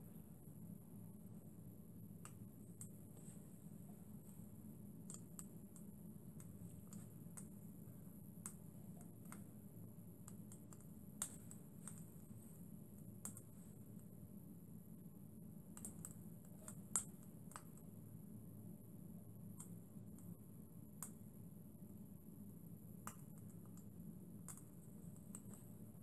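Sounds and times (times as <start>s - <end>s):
low steady hum: 0.0s - 26.0s
light ticks and clicks: 2.2s - 14.2s, 15.7s - 18.0s, 19.4s - 26.0s.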